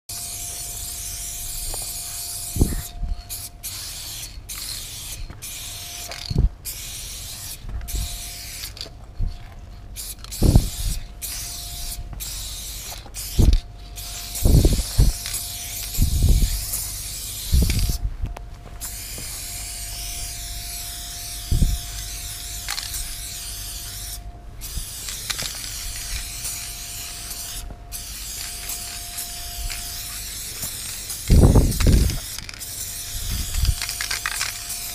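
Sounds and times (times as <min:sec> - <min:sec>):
spray paint can hissing: 0:00.1 - 0:09.4, 0:10.0 - 0:18.0, 0:18.8 - 0:34.9.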